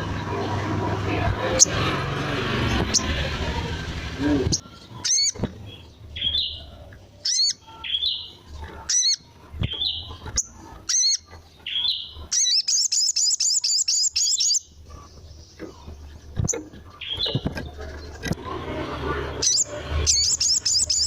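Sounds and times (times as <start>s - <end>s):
bird chirping: 2.6s - 3.6s, 4.2s - 18.4s, 19.1s - 21.0s.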